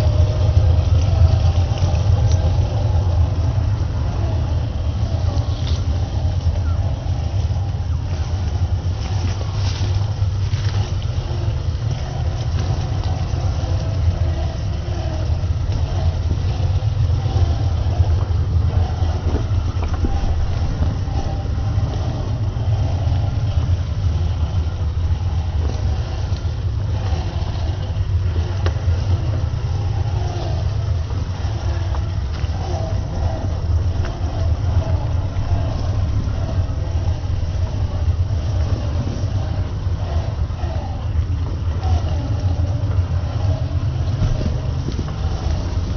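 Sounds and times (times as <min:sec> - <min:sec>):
drivetrain whine: 0:00.0 - 0:45.9
electric motor drone: 0:00.0 - 0:45.9.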